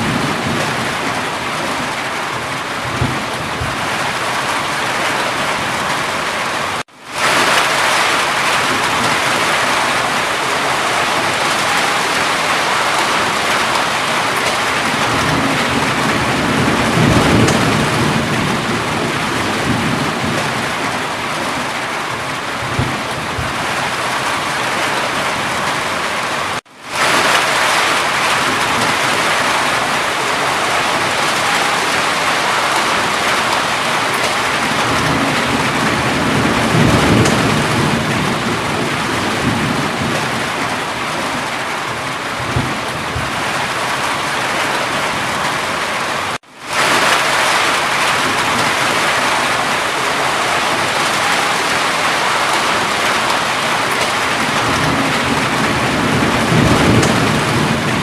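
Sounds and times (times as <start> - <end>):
thunder rumble: 0.0 - 25.9, 27.0 - 58.0
heavy rain: 0.0 - 58.0.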